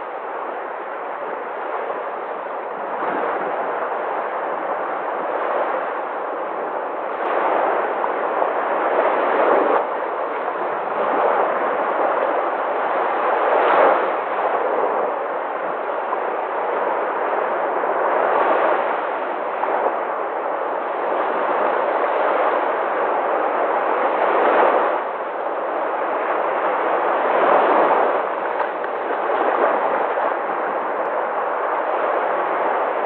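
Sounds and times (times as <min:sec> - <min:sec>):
sea waves breaking: 0:00.0 - 0:33.0.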